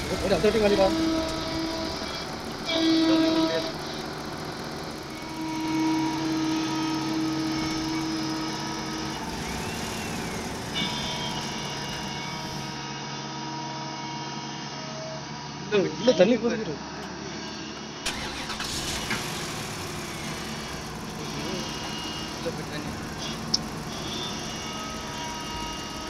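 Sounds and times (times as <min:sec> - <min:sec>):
machine engine running: 0:00.0 - 0:13.1, 0:17.4 - 0:26.0
engine whine: 0:00.0 - 0:15.7, 0:16.5 - 0:26.0.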